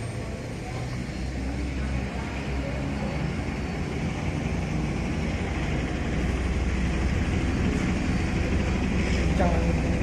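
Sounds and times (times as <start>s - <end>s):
helicopter running: 0.0s - 10.0s.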